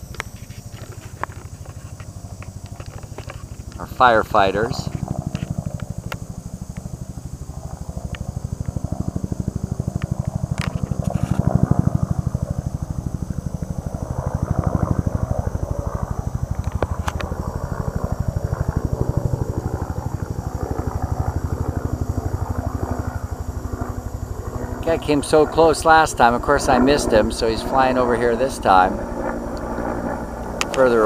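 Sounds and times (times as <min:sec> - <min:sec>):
helicopter rotor beating overhead: 0:00.0 - 0:31.0.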